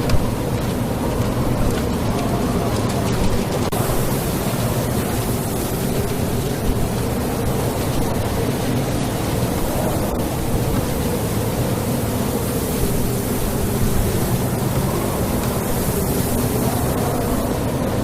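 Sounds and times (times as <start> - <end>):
sandstorm wind rushing: 0.0 - 18.0
vehicle driving rumble: 0.0 - 18.0.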